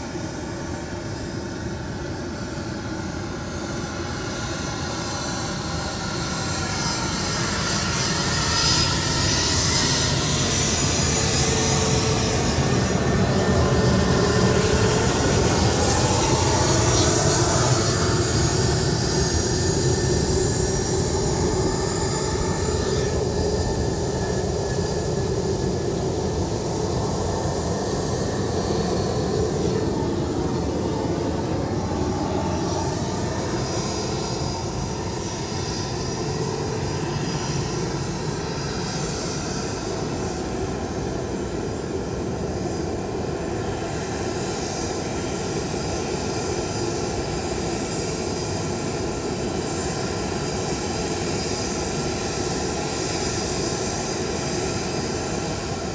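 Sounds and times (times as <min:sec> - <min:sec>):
jet engines passing by: 0:00.0 - 0:55.9.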